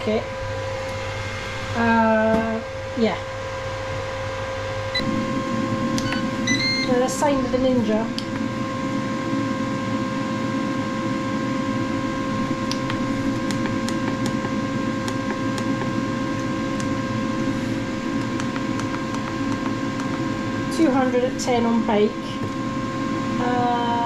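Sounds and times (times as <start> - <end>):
cooker fans droning: 0.0 - 24.0.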